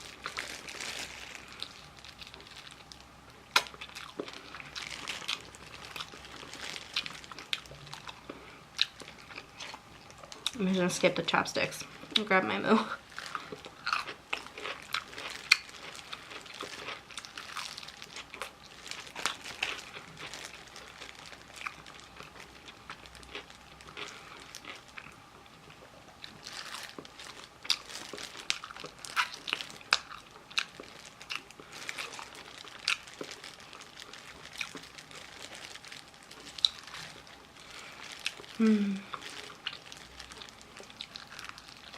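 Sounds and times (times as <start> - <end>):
plastic packaging crinkling: 0.0 - 8.3, 13.0 - 25.0, 26.2 - 41.9
crunching and chewing fried chicken: 0.0 - 10.9, 11.8 - 41.9.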